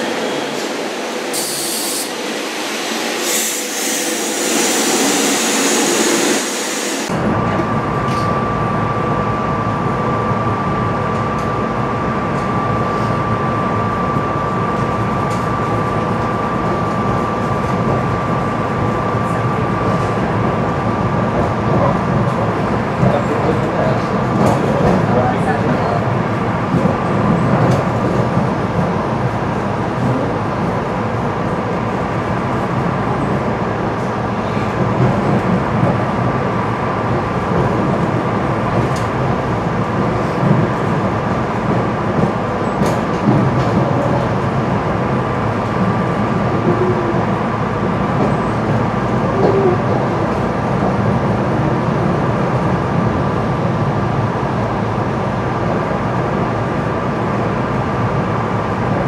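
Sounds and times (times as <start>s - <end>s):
train wheels rumbling on tracks: 0.0s - 59.0s.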